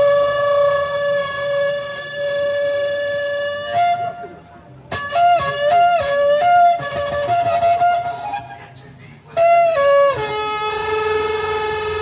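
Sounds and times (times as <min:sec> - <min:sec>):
ram's horn blasts: 0:00.0 - 0:08.7, 0:09.3 - 0:12.0.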